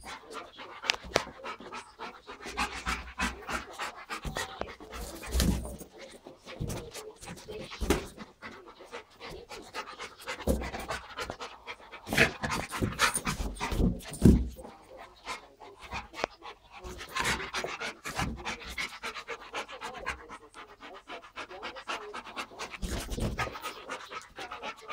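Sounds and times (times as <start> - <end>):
dog panting: 0.0 - 24.9.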